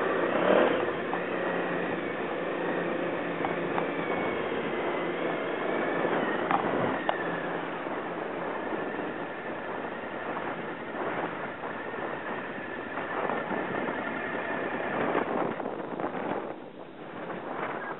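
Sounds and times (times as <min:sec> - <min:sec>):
motorcycle engine running: 0:00.0 - 0:17.9
wind noise on microphone: 0:00.0 - 0:17.9.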